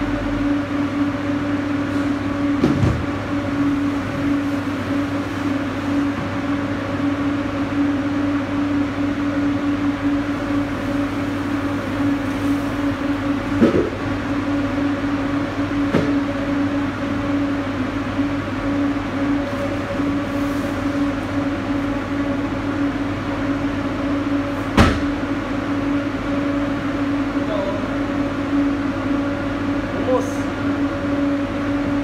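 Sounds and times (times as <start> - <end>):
refrigeration machinery humming: 0.0 - 32.0.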